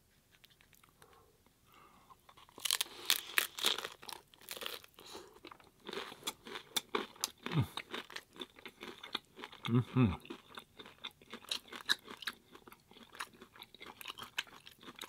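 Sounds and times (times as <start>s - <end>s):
crunchy chewing: 2.1s - 15.0s
taco crunching bite: 2.3s - 15.0s.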